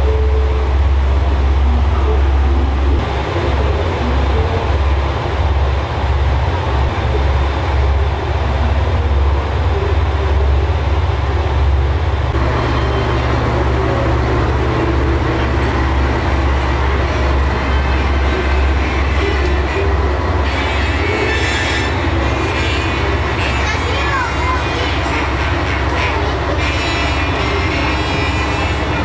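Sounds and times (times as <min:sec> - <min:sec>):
diesel railcar idling: 0:00.0 - 0:29.0.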